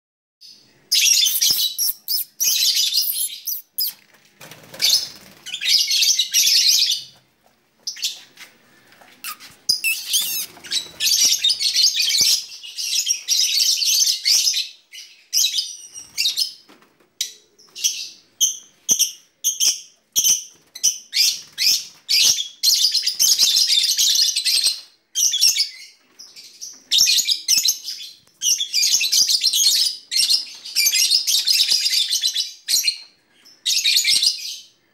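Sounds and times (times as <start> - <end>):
birds chattering and chirping: 0.4 - 34.9.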